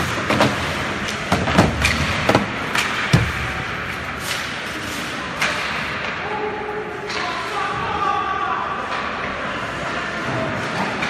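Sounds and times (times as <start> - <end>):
hockey sticks and puck clacking: 0.0 - 6.2, 6.9 - 8.1, 8.8 - 11.0
rink hall background noise: 0.0 - 11.0.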